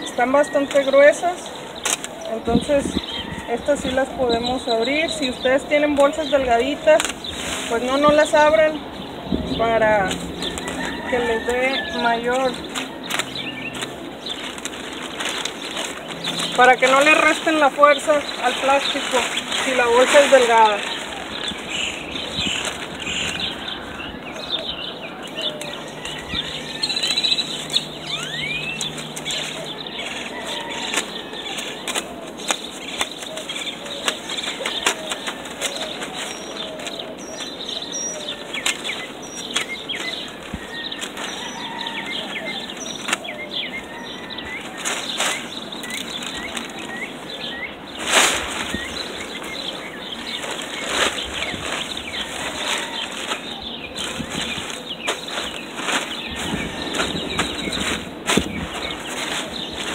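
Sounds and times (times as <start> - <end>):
birds chirping faintly: 0.0 - 59.9
plastic sheeting rustling and crackling: 0.0 - 59.9.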